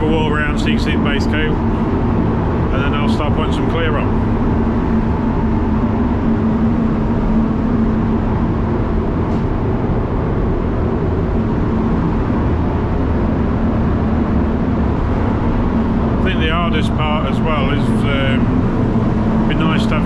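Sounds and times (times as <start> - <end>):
fans rushing air: 0.0 - 20.0
low fan hum: 0.0 - 20.0.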